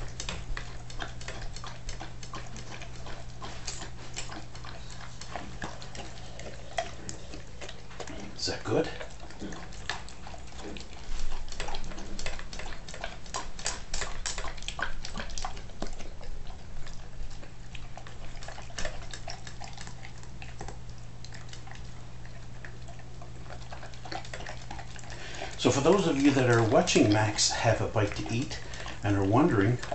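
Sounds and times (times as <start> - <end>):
dog chewing and lapping: 0.0 - 29.9.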